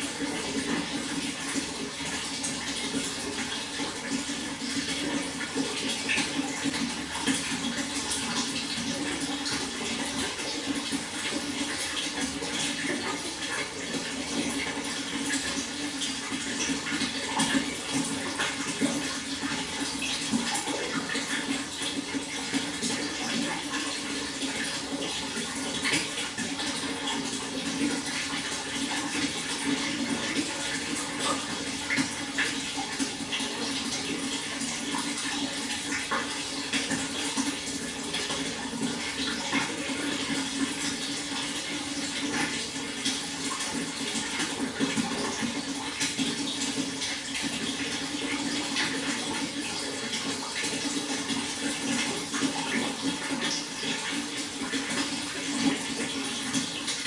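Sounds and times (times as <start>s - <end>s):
water flowing and splashing: 0.0s - 57.0s.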